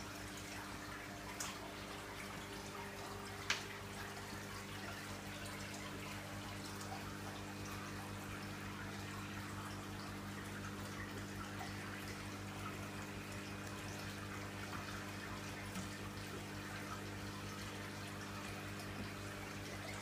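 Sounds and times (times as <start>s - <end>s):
faint water drips: 0.0s - 20.0s
low pump hum: 0.0s - 20.0s
water trickling and splashing: 0.0s - 20.0s.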